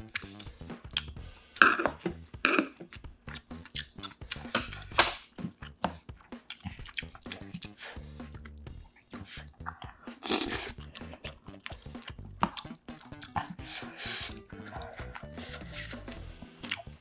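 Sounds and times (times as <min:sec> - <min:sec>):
wet mouth clicks and smacks: 0:00.0 - 0:13.6, 0:16.6 - 0:17.0
close chewing of food: 0:00.0 - 0:17.0.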